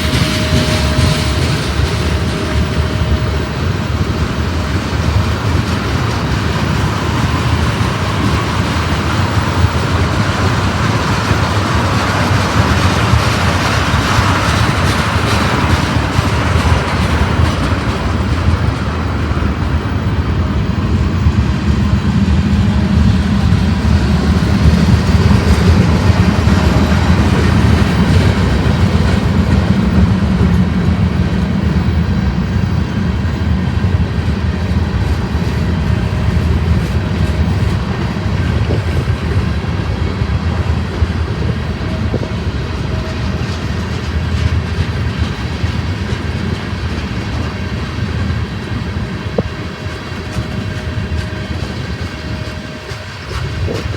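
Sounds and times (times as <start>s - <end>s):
freight train rolling on rails: 0.0s - 53.9s.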